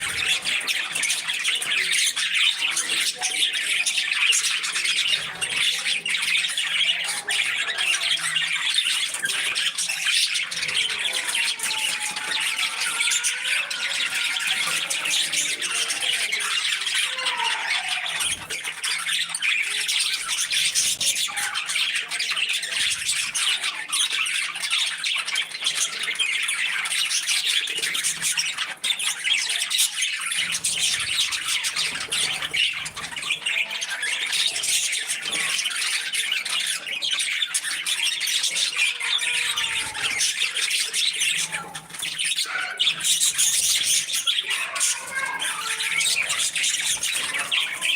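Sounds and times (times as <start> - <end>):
budgerigars chattering and chirping: 0.0 - 47.9.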